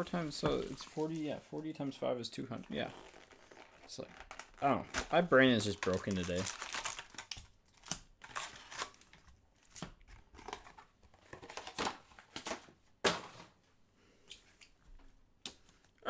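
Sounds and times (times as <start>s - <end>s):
plastic packaging rustling: 0.0s - 13.5s.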